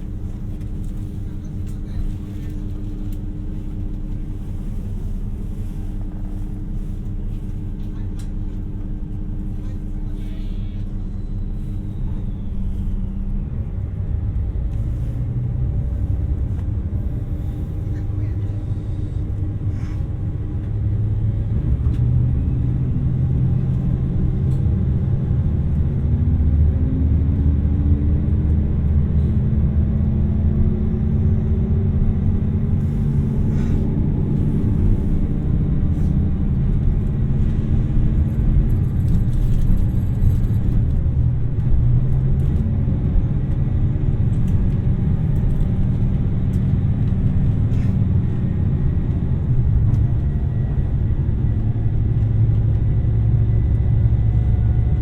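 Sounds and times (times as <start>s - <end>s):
diesel train rumbling: 0.0s - 55.0s.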